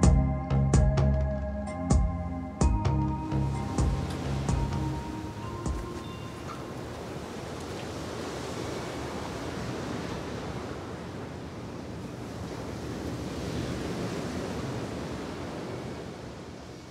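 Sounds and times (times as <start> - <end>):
ocean surf: 3.1 - 16.9.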